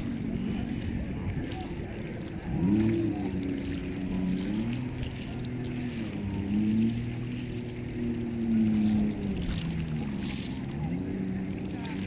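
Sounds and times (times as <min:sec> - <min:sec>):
motorboat engine running: 0:00.0 - 0:12.0
water rushing past hull: 0:00.0 - 0:12.0.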